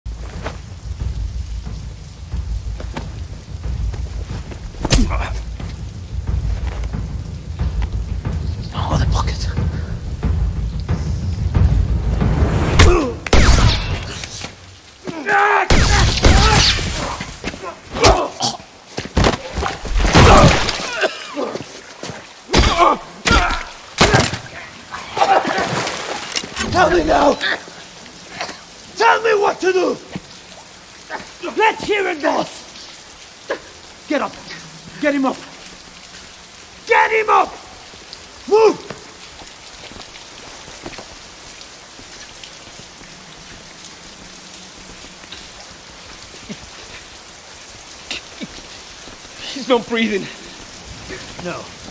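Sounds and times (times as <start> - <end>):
rain on a hard surface: 0.0 - 51.9.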